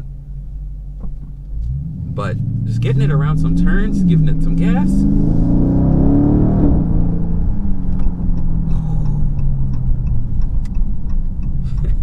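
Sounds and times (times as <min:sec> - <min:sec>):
low rumble: 0:00.0 - 0:12.0
car engine revs dropping: 0:01.0 - 0:12.0.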